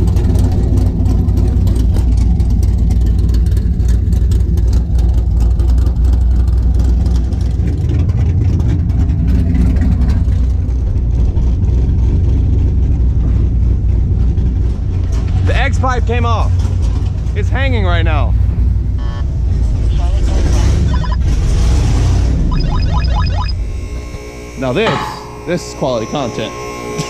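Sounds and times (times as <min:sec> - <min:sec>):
loud open exhaust engine rumble: 0:00.0 - 0:22.7.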